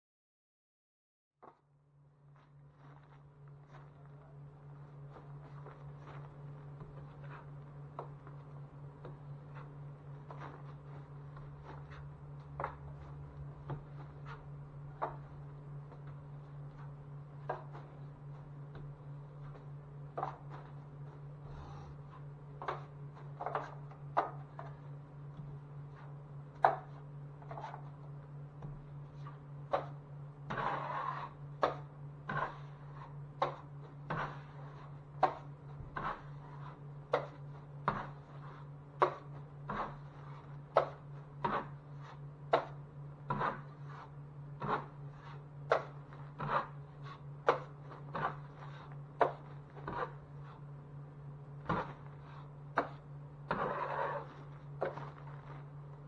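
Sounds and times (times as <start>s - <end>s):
low hum: 1.4s - 56.0s.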